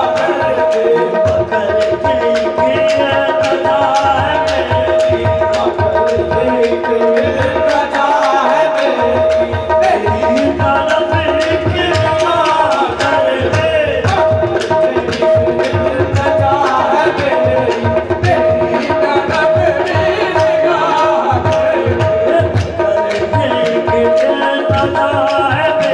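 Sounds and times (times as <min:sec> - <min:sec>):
harmonium chords: 0:00.0 - 0:25.9
man singing: 0:00.0 - 0:25.9
tabla rhythm: 0:00.0 - 0:25.9.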